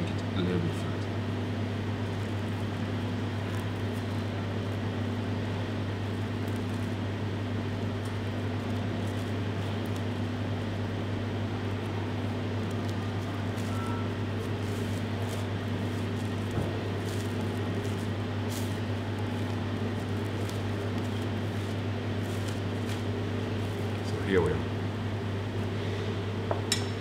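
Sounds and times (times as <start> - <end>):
kitchen machinery hum: 0.0 - 27.0
cling film crinkling: 1.3 - 25.8.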